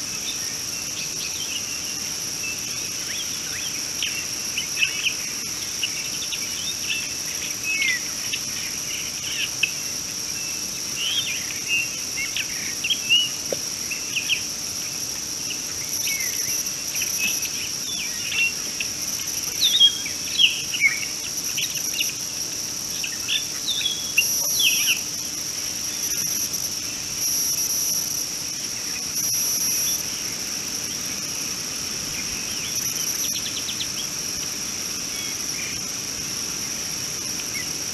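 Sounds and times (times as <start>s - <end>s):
high-pitched insect drone: 0.0s - 37.9s
higher insect buzz: 0.0s - 37.9s.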